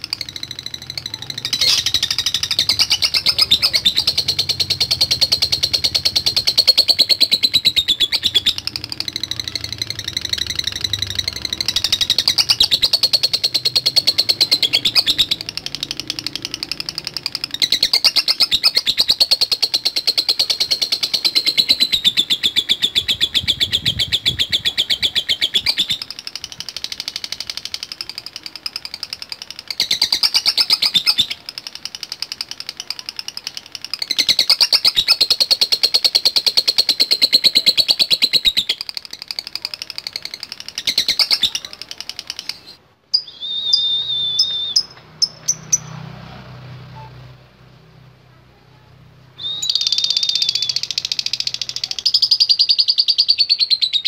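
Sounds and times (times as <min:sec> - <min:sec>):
lovebird chattering trill: 0:00.0 - 0:46.1, 0:49.4 - 0:54.0.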